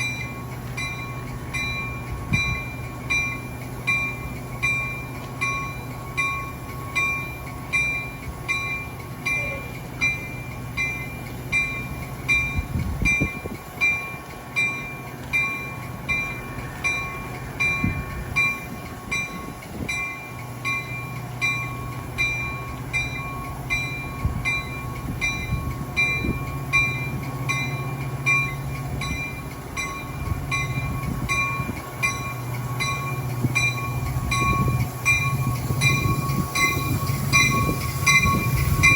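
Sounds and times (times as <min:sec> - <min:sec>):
locomotive warning bell ringing: 0:00.0 - 0:38.9
train engine hum: 0:00.0 - 0:38.9.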